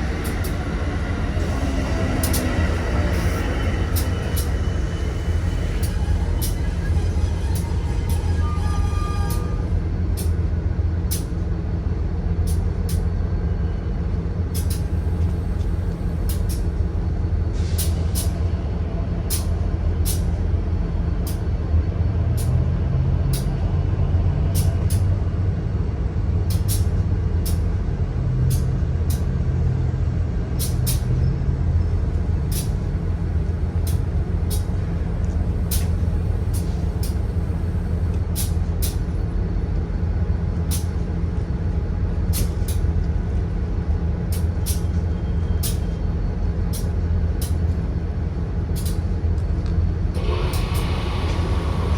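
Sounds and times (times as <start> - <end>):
train rumbling past: 0.0 - 51.9.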